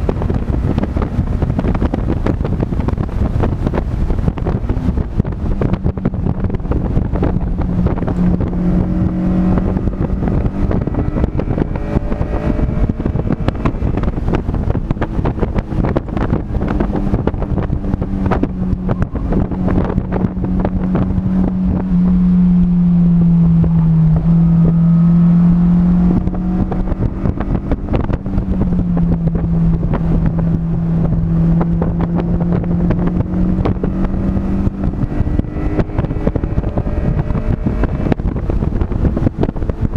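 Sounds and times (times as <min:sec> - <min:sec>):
race car engine: 0:00.0 - 0:39.9
wind buffeting microphone: 0:00.0 - 0:39.9.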